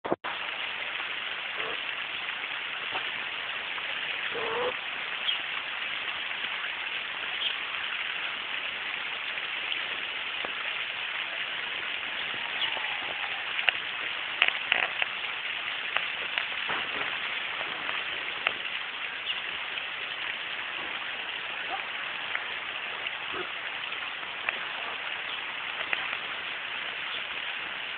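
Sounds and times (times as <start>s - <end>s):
rain falling: 0.0s - 27.9s
sharp ticks of raindrops: 0.2s - 27.9s.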